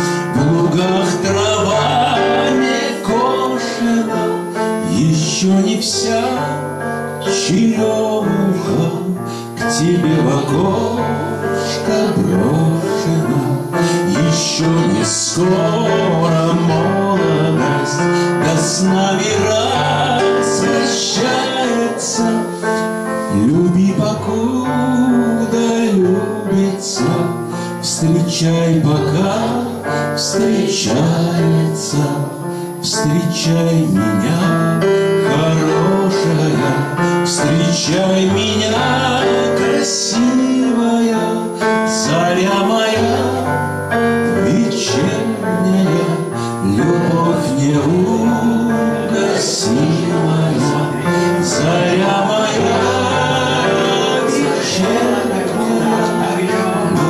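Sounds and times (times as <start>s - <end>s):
electronic keyboard music: 0.0s - 57.0s.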